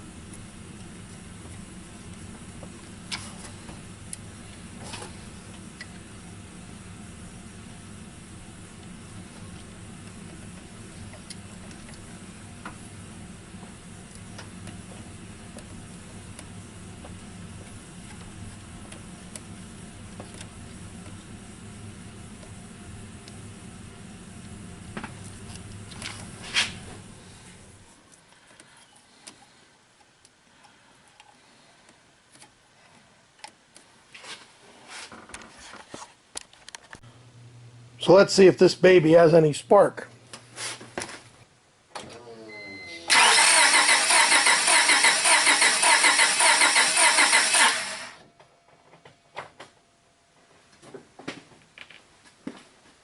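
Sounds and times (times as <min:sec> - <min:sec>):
steady low hum: 0:00.0 - 0:34.6, 0:36.7 - 0:48.7.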